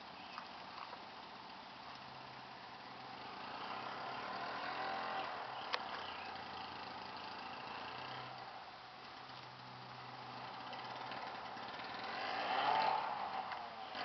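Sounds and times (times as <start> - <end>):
vehicle engine running: 1.7 - 14.0.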